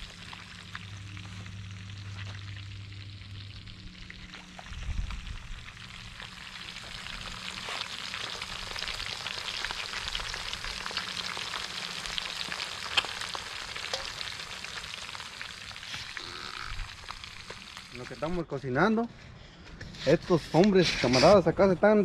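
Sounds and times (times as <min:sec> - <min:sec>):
fish frying in hot oil: 0:00.0 - 0:18.3.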